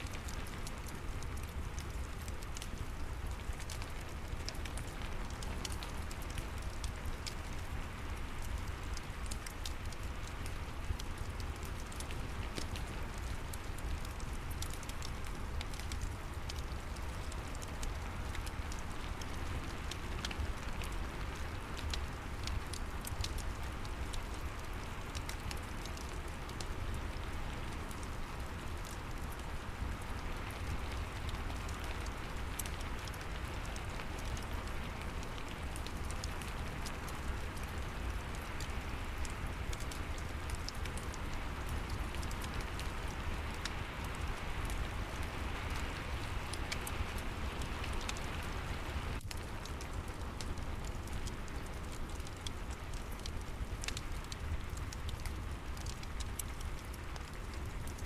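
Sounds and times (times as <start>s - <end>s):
fireplace crackling: 0.0s - 58.0s
low constant rumble: 0.0s - 58.0s
steady rain hiss: 0.0s - 58.0s.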